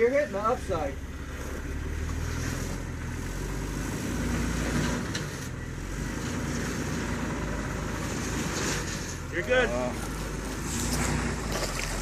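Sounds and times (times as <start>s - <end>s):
engine running at low speed: 0.2s - 12.0s.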